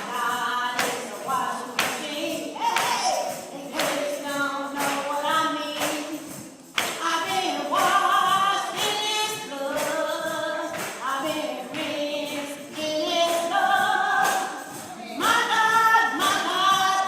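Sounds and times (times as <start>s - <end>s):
people singing along: 0.0s - 17.0s
tambourine beat: 0.0s - 17.0s.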